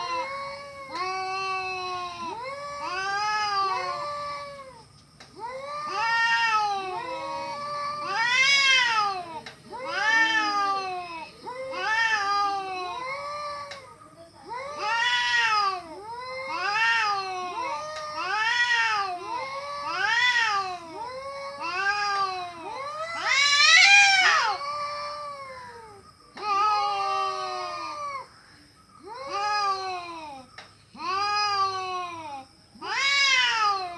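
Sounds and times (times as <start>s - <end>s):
cats caterwauling: 0.0s - 13.9s, 14.5s - 28.3s, 29.0s - 33.9s.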